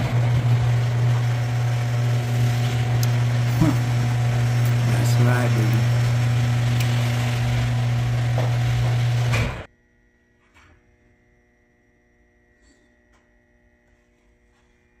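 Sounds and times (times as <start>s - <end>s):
garage door opener motor humming: 0.0s - 13.9s.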